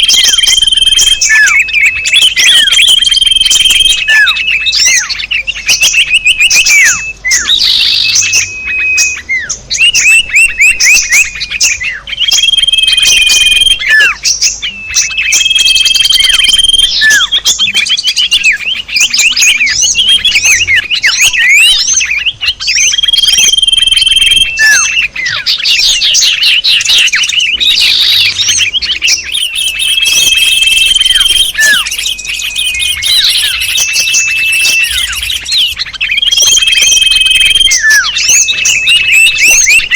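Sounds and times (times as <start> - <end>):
high bird whistle: 0.0 - 39.9
songbirds chirping and trilling: 0.0 - 39.9.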